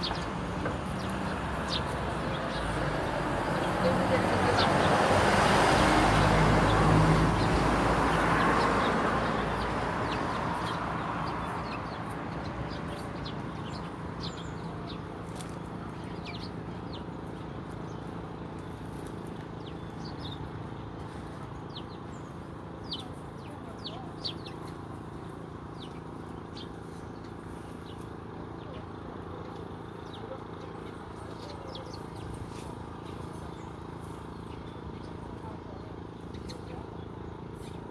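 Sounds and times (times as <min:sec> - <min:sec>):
sparrows chirping: 0:00.0 - 0:37.9
vehicle passing: 0:00.0 - 0:37.9.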